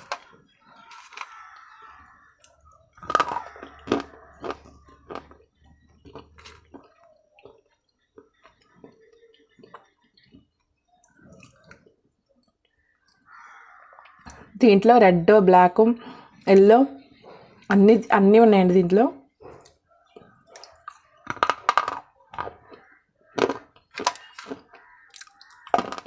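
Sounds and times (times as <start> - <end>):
person crunching food: 0.0 - 14.5, 19.4 - 26.0.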